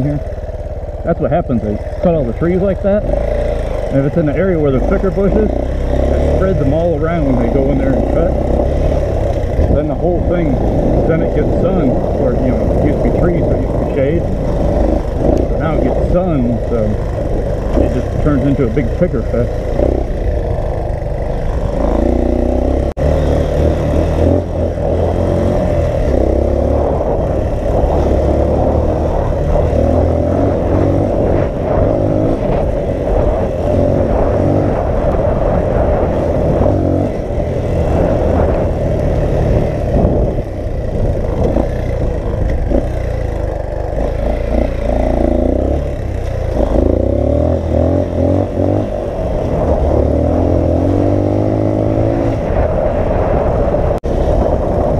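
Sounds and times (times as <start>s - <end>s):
dirt bike engine revving: 0.0s - 54.9s
wind buffeting microphone: 1.6s - 54.9s.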